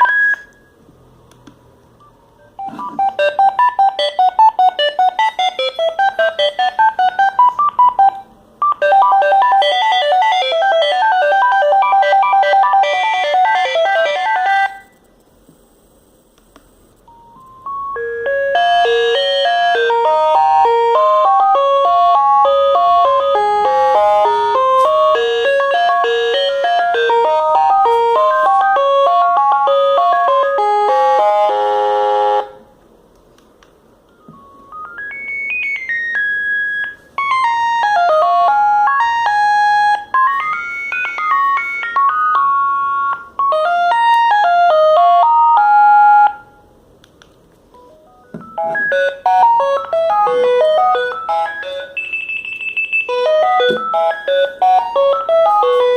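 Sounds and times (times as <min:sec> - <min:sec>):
mobile phone ringtone melody: 0:00.0 - 0:00.7, 0:02.0 - 0:15.0, 0:17.1 - 0:32.6, 0:34.1 - 0:46.6, 0:47.8 - 0:55.9.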